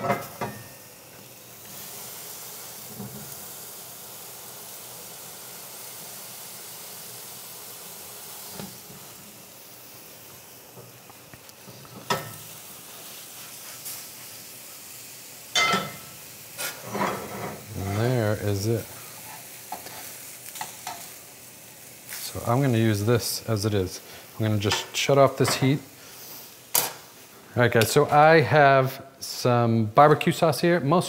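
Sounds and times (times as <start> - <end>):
mushrooms sizzling in skillet: 0.0 - 31.0.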